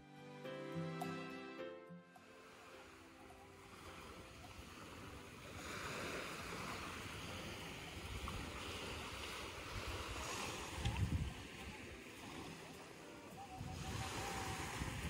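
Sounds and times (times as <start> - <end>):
small waves breaking on shore: 2.2 - 15.0.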